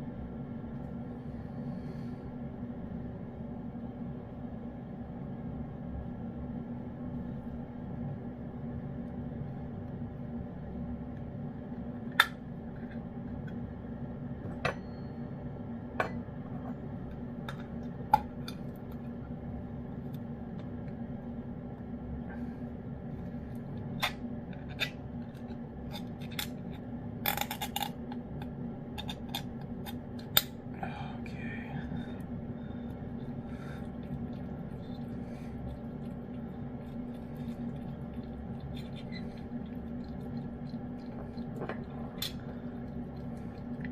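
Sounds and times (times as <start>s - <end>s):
low steady hum: 0.0s - 43.9s.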